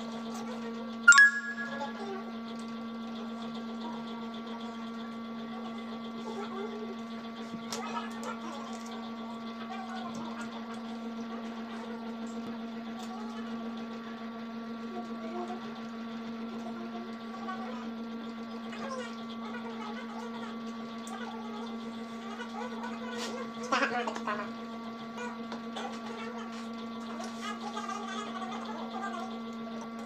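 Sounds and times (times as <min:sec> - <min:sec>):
electrical motor hum: 0:01.8 - 0:30.0.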